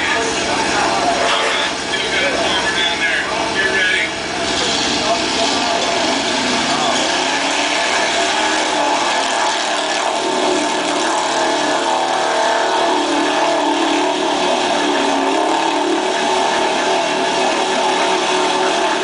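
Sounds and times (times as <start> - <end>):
truck engine running hard: 0.0 - 19.0.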